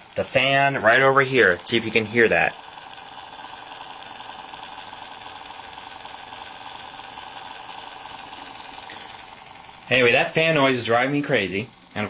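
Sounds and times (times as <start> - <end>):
laptop fan whirring: 0.0 - 12.0.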